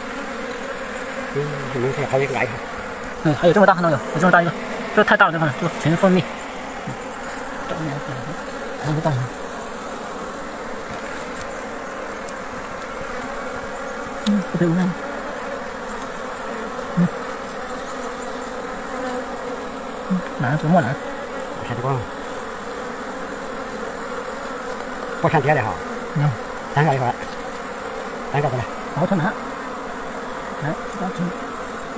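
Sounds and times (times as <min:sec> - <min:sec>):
honeybees buzzing: 0:00.0 - 0:31.9.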